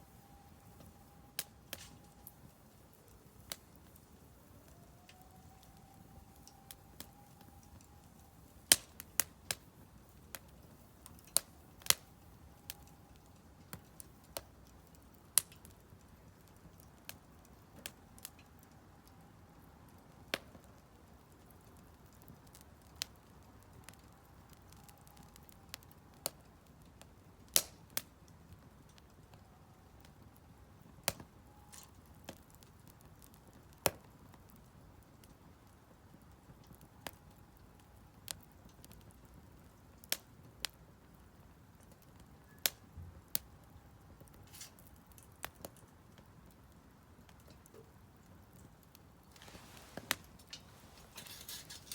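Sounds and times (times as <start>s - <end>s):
firewood crackling and popping: 0.0s - 51.9s
low steady background noise: 0.0s - 51.9s.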